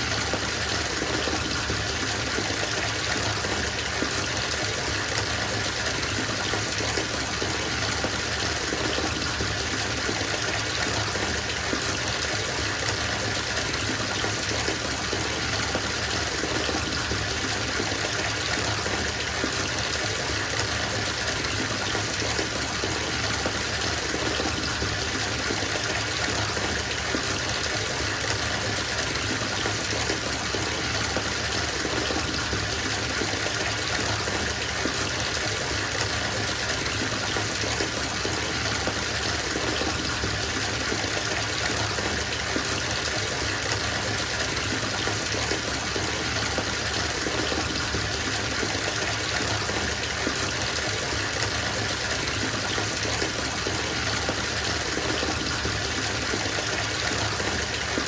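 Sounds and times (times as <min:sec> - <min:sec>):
tap water filling bathtub: 0:00.0 - 0:58.0.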